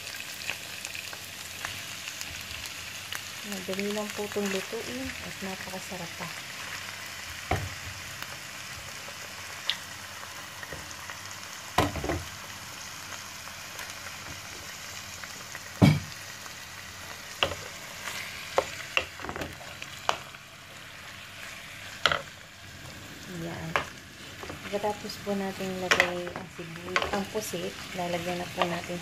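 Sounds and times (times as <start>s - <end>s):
squid sizzling in hot oil: 0.0s - 29.0s.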